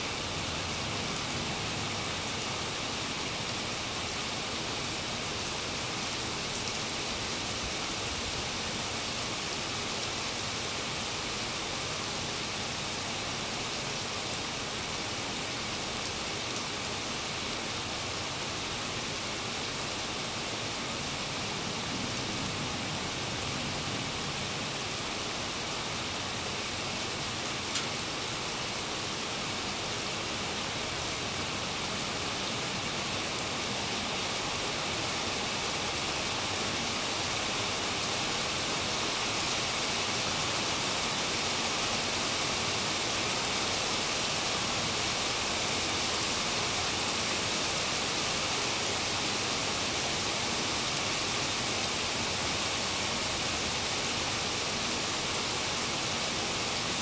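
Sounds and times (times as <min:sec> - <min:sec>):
rain on standing water: 0:00.0 - 0:57.0.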